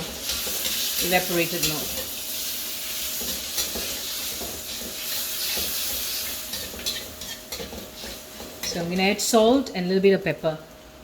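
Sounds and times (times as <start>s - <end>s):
milk sizzling in a pan: 0.0s - 9.8s.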